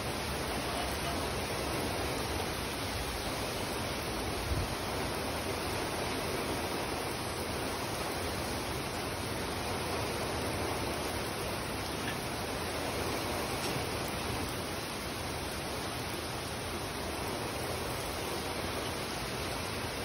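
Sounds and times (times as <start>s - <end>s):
heavy rain on pavement and cars: 0.0s - 20.0s.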